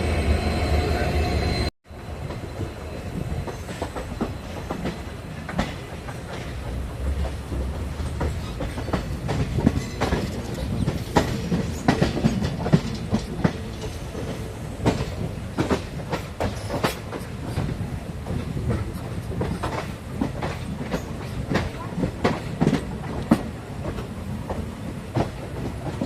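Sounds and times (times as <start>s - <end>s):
train low rumble: 0.0s - 26.0s
train wheels clacking on joints: 3.4s - 26.0s.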